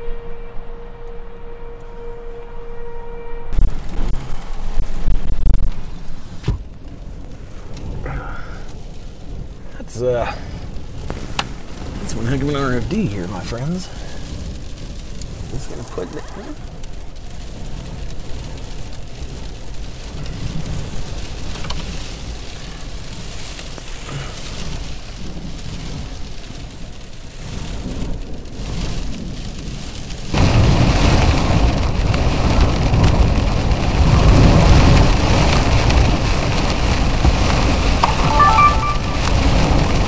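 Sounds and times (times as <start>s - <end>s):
wind buffeting a car: 3.5s - 38.0s
rain pelting a car: 3.6s - 40.0s.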